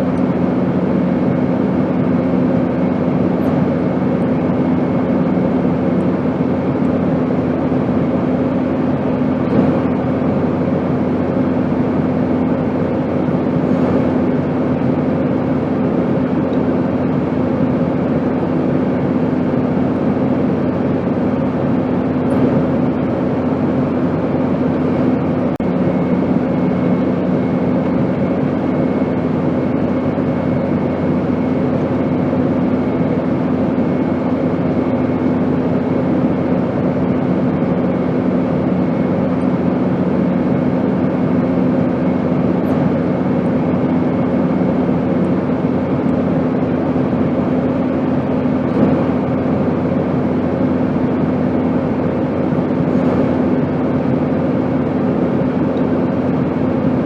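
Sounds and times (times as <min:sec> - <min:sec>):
airplane engine rushing hum: 0:00.0 - 0:57.0.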